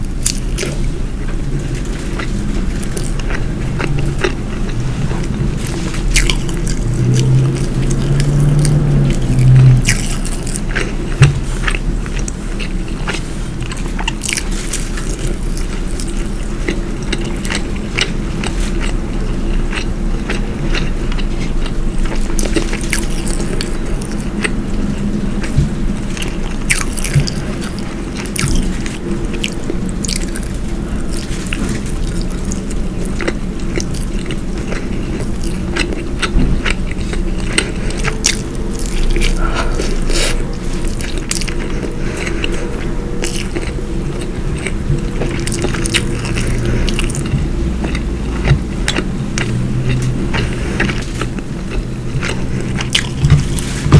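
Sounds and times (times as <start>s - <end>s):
person chewing and eating: 0.0s - 53.9s.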